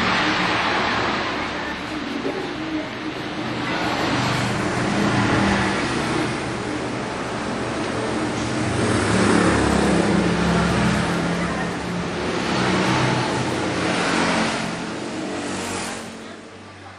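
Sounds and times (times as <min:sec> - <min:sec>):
road traffic passing: 0:00.0 - 0:16.9.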